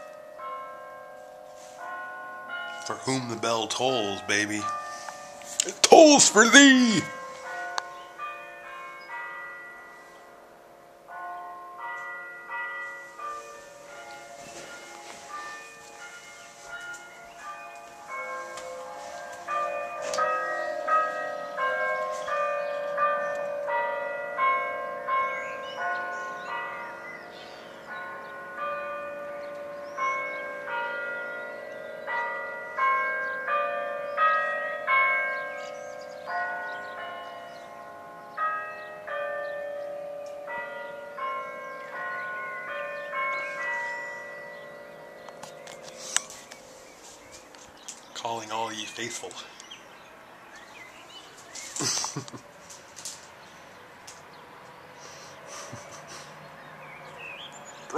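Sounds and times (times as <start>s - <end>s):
church bells ringing: 0.0s - 57.9s.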